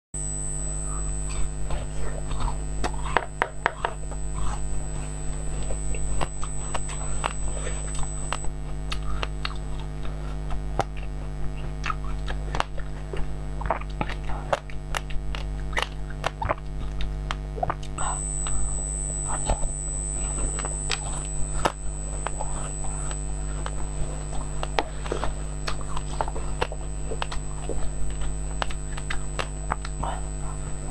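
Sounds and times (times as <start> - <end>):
faint high whine: 0.2 - 14.7, 17.5 - 30.9
low electrical hum: 0.2 - 30.9
crunchy chewing: 0.3 - 30.9
wet mouth clicks: 1.0 - 30.7.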